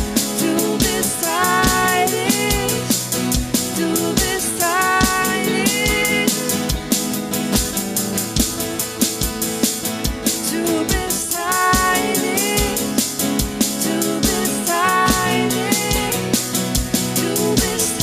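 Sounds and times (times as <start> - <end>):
drum kit beat: 0.0 - 18.0.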